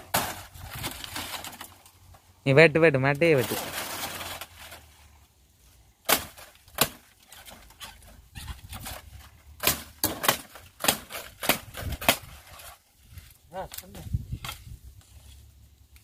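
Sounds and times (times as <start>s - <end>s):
dry palm stalks cracking: 0.0s - 2.2s, 3.1s - 4.9s, 6.0s - 16.0s.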